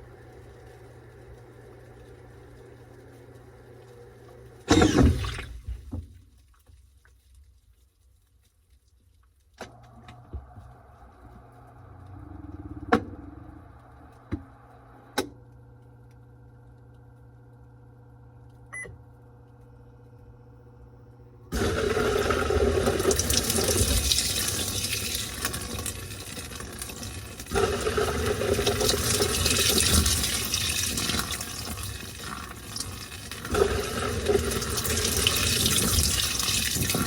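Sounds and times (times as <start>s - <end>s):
washing machine motor hum: 0.0s - 6.1s, 9.6s - 37.0s.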